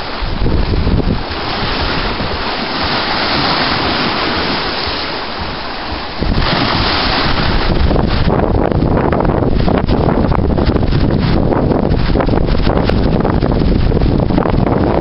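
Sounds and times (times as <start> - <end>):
storm waves breaking: 0.0 - 15.0
wind buffeting microphone: 0.0 - 15.0.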